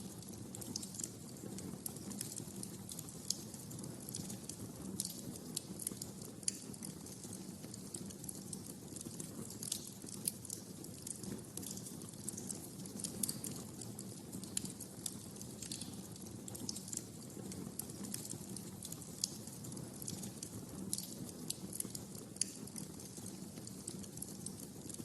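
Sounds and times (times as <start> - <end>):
wood fire crackling: 0.0 - 25.0
low rush of flames: 0.1 - 25.0.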